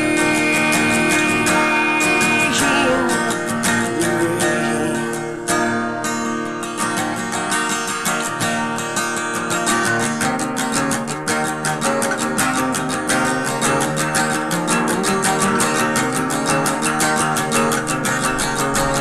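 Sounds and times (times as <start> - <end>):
guitar strumming: 0.0 - 19.0.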